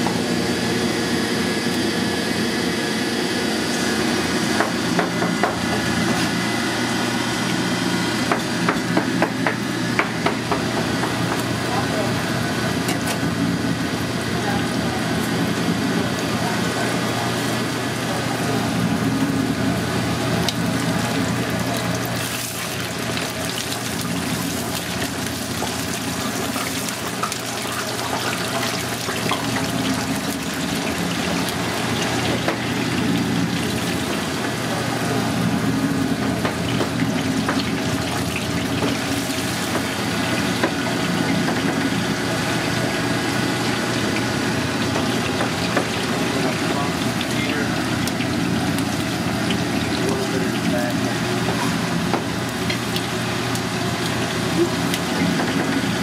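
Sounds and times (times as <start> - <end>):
low hum of kitchen machinery: 0.0 - 56.0
oil sizzling in deep fryer: 0.0 - 56.0.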